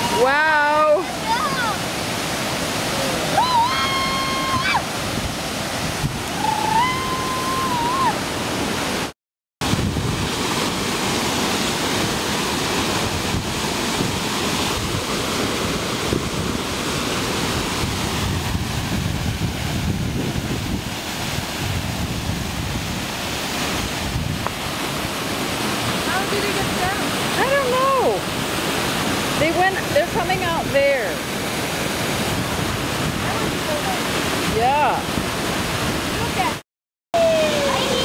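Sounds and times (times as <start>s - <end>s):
waterfall rushing into pool: 0.0s - 36.6s, 37.2s - 38.0s.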